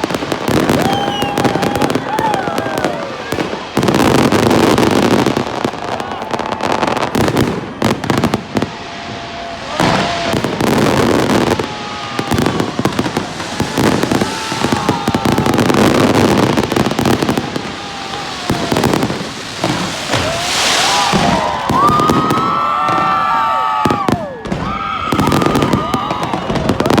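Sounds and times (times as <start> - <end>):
fireworks bangs and crackling: 0.0 - 27.0
fireworks whistling: 0.0 - 27.0.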